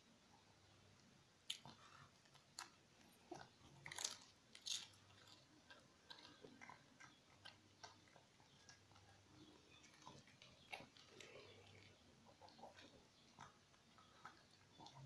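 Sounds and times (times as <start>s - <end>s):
dog crunching a cracker: 1.4s - 15.0s.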